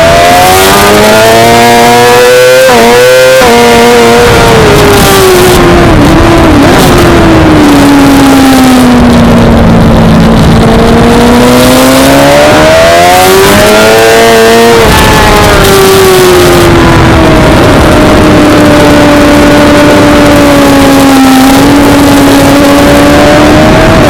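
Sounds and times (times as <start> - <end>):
race motorcycle engine revving: 0.0 - 24.0.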